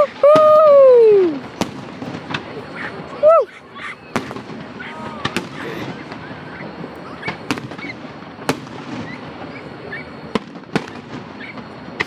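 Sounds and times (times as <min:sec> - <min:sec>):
fainter fireworks pops: 0:00.0 - 0:03.2, 0:04.0 - 0:12.0
fireworks bangs: 0:00.0 - 0:12.0.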